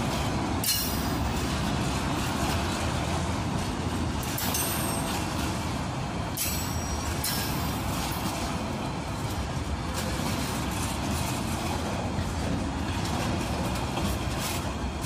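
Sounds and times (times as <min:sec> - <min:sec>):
freight wagons rumbling on rails: 0:00.0 - 0:15.0.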